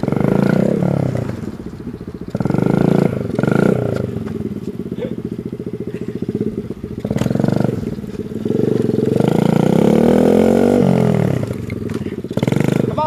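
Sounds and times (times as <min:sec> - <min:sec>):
small engine revving: 0:00.0 - 0:13.0.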